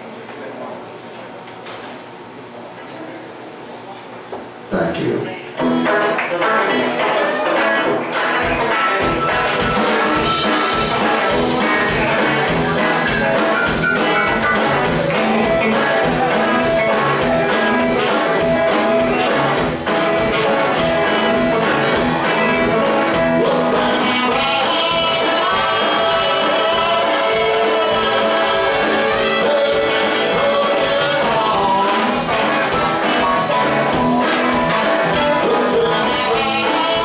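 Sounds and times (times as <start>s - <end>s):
electric guitars: 5.3s - 37.0s
drums: 5.5s - 37.0s
bass: 5.6s - 37.0s
horn section: 6.7s - 37.0s.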